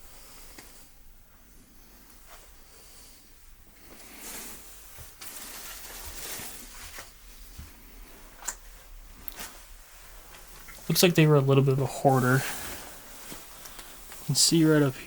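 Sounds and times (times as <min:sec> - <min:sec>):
rustling and shuffling: 0:00.0 - 0:15.0.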